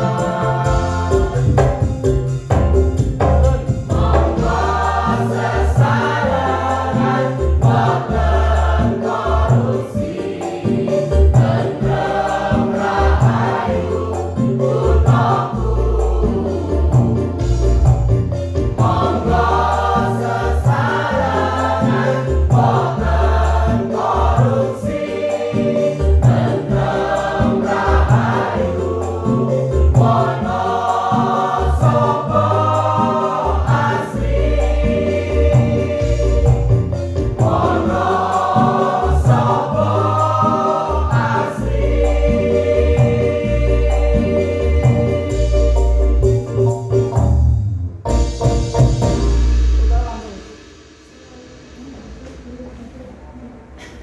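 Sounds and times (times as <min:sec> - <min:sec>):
mixed choir singing: 0:00.0 - 0:01.9, 0:03.2 - 0:46.5
instrumental backing with bass line: 0:00.0 - 0:50.7.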